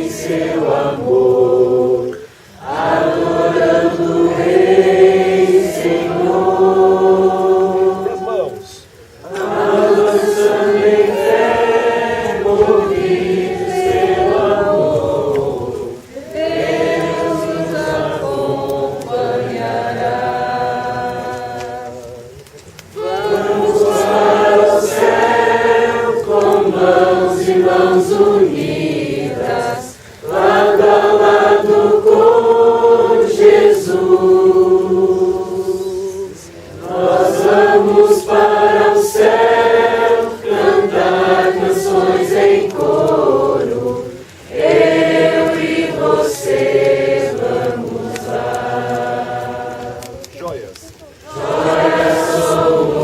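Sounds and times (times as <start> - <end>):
group singing a worship song: 0.0 - 53.0.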